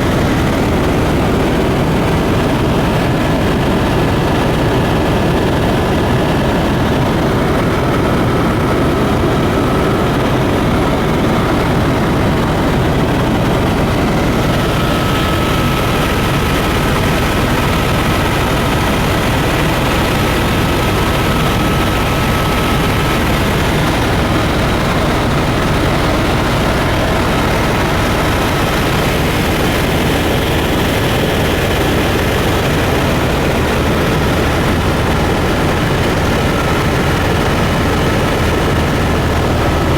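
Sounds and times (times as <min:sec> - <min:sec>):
propeller airplane engine drone: 0:00.0 - 0:39.9.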